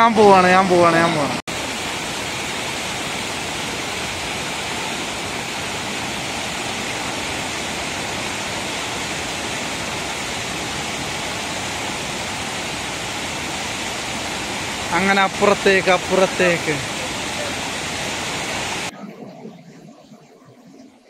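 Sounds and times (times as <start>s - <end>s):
waterfall rushing over rock: 0.0s - 18.9s.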